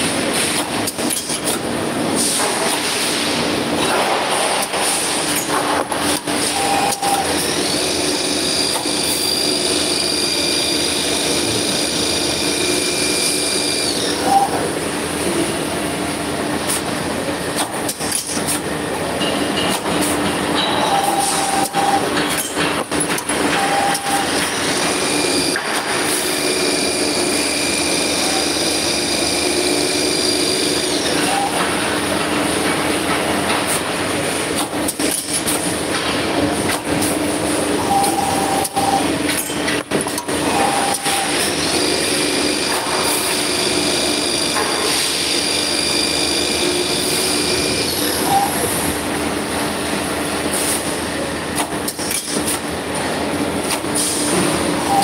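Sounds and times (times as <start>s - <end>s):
machine mechanical hum: 0.0s - 55.0s
high machine whine: 4.6s - 55.0s.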